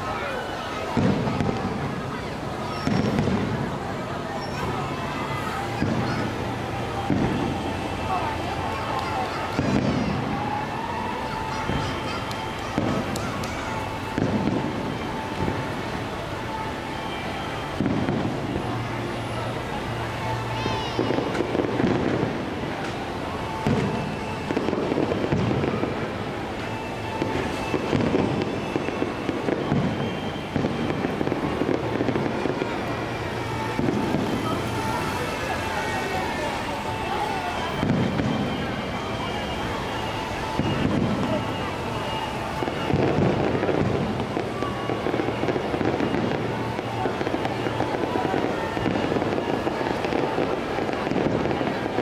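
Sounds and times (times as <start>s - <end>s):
firework crackling: 0.0s - 52.0s.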